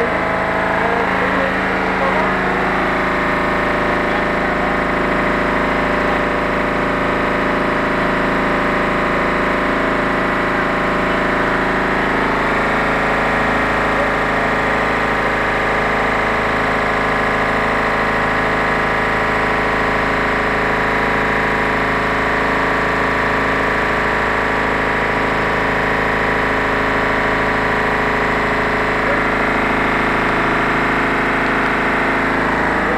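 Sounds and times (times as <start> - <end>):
knitting machine drone: 0.0 - 32.9.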